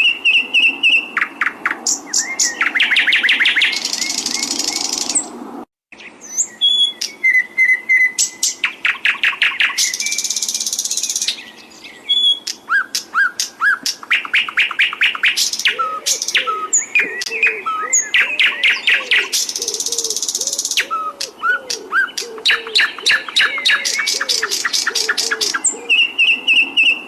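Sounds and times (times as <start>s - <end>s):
songbird trills and whistles: 0.0s - 5.3s, 6.0s - 27.0s.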